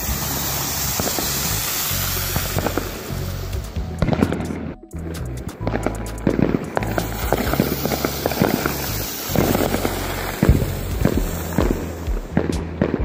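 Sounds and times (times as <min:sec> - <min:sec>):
firework crackling pops: 0:00.0 - 0:13.0
firework hissing: 0:00.0 - 0:13.0.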